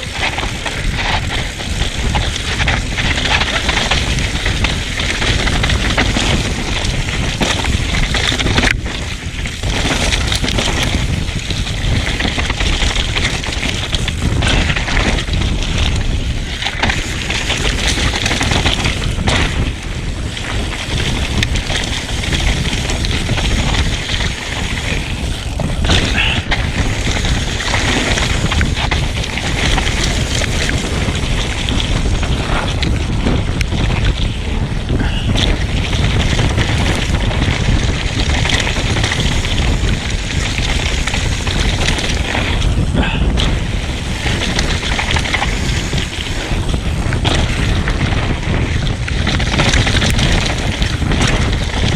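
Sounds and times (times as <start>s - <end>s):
bike knocking and rattling: 0.0s - 51.9s
bike tyres over dirt and rock: 0.0s - 51.9s
wind rumbling on microphone: 0.0s - 51.9s.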